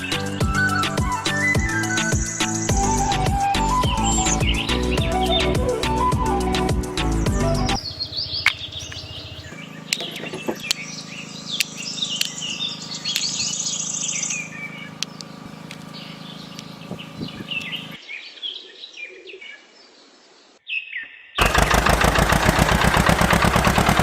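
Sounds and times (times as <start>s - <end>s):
birds chirping and twittering: 0.0s - 21.4s.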